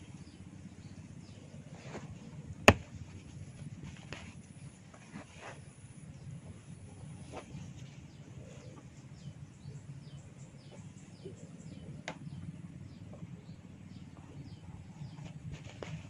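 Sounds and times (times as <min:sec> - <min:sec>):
small birds chirping: 0:00.0 - 0:05.2, 0:06.0 - 0:16.0.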